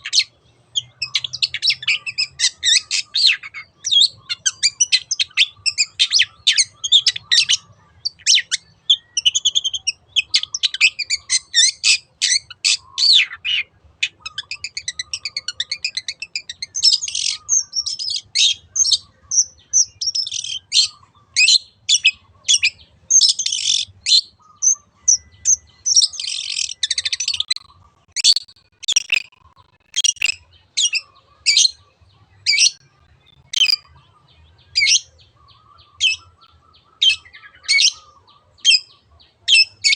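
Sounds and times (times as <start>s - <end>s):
bird singing chirps and trills: 0.0s - 39.9s
sharp bird calls: 0.0s - 39.9s.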